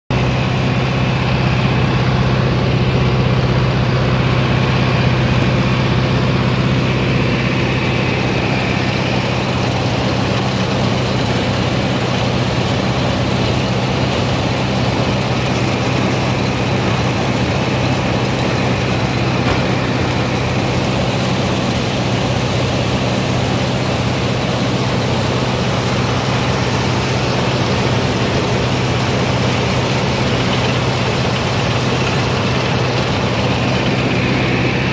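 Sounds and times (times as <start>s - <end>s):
tractor engine running: 0.0s - 34.9s
corn picker whirring and rattling: 0.1s - 34.9s.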